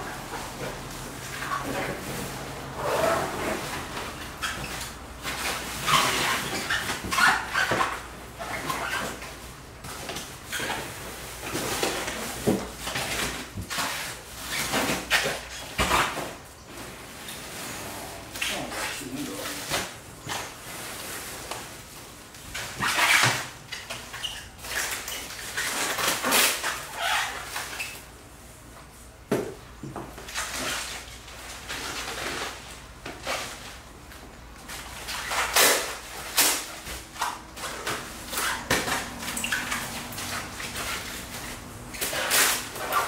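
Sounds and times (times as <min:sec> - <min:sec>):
bubble wrap and cardboard crinkling: 0:00.0 - 0:43.0.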